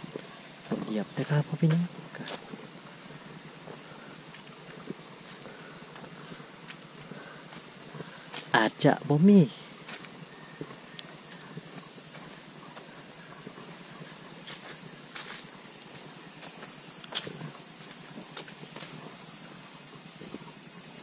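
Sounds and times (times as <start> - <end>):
soft footsteps on a path: 0.0 - 8.7, 9.6 - 21.0
high-pitched insect chorus: 0.0 - 21.0.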